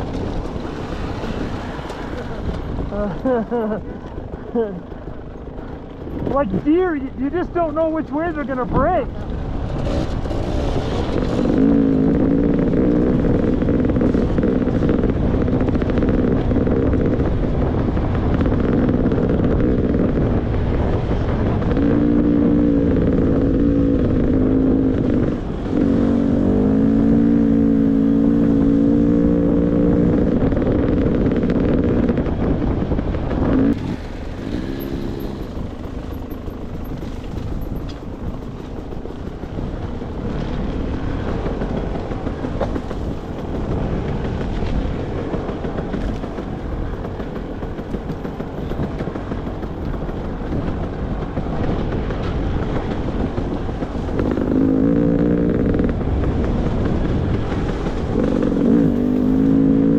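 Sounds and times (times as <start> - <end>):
two-stroke motorcycle engine revving: 5.5 - 59.9.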